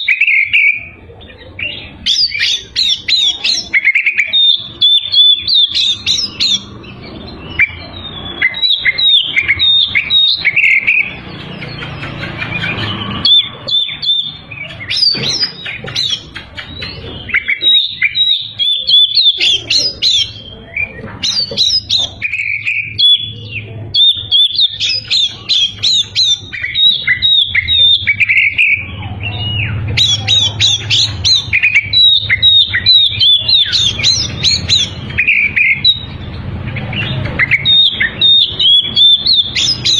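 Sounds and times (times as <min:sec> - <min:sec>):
songbird whistles and trills: 0:00.0 - 0:39.9.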